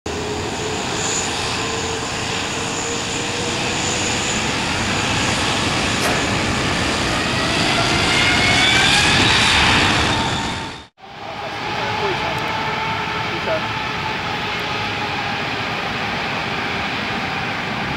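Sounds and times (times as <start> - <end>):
jet engines spooling up: 0.1 - 17.9.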